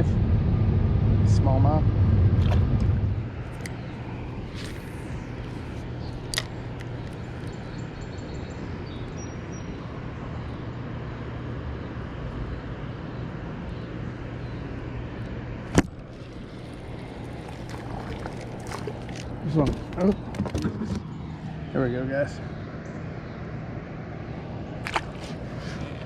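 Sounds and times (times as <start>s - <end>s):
faint hum: 0.0s - 26.0s
low outdoor rumble: 0.0s - 26.0s.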